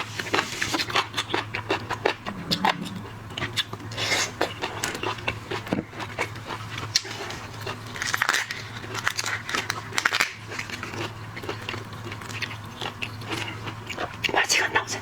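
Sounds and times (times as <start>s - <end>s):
biting and chewing: 0.1s - 14.4s.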